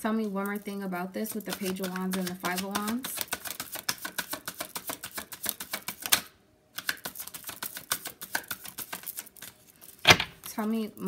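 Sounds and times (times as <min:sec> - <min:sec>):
cards being shuffled: 0:00.2 - 0:10.7.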